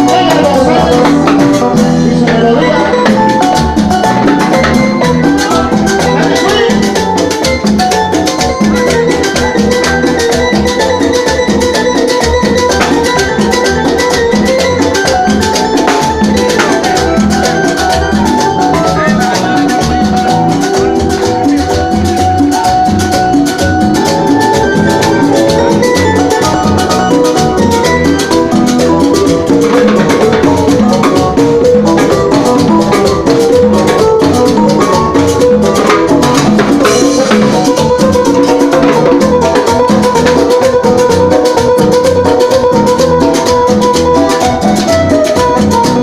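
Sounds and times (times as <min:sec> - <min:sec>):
salsa band playing: 0:00.0 - 0:46.0.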